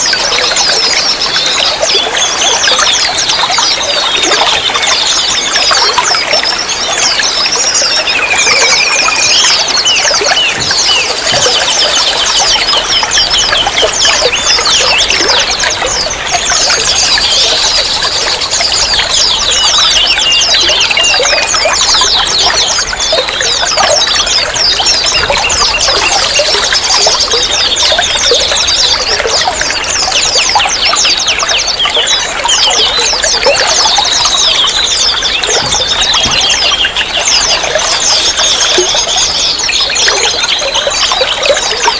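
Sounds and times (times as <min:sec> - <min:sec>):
running water trickling: 0:00.0 - 0:41.9
songbirds chirping: 0:00.0 - 0:41.9.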